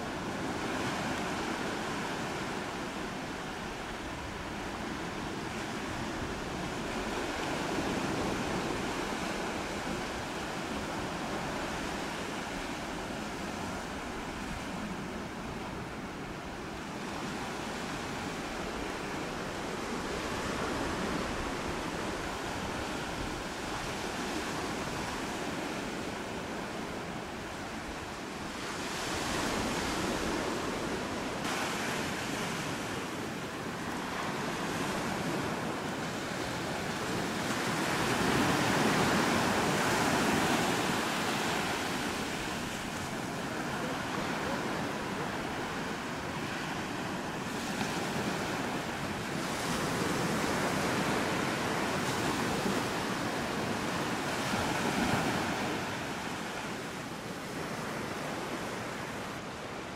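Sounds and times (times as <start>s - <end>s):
small waves breaking on beach: 0.0s - 59.9s.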